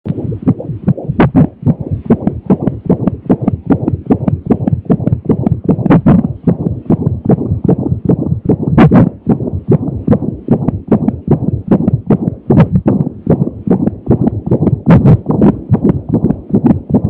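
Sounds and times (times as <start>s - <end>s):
fetal heartbeat whooshing pulse: 0.0s - 17.0s.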